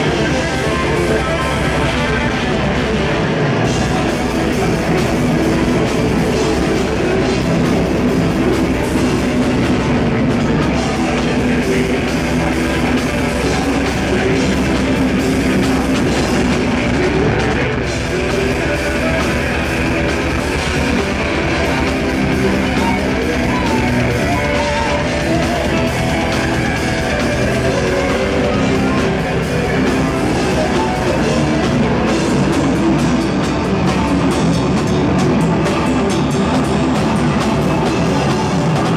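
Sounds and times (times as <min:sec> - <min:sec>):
bass guitar: 0:00.0 - 0:38.9
distorted electric guitars: 0:00.0 - 0:38.9
drum kit: 0:00.0 - 0:38.9.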